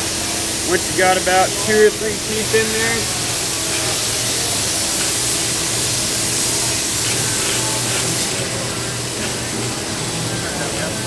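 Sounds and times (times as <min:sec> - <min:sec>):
coolant hiss: 0:00.0 - 0:11.0.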